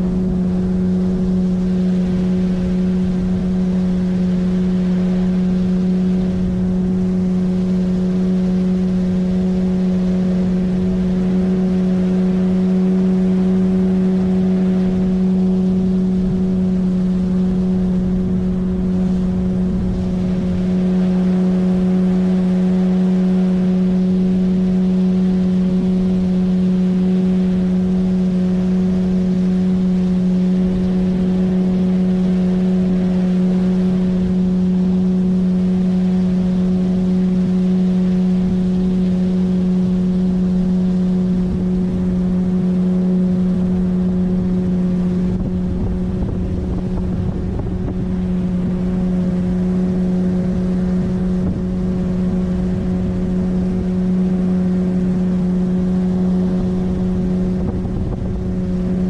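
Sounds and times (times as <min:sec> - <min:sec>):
outboard motor droning: 0:00.0 - 0:59.0
water and wind noise: 0:00.0 - 0:59.0.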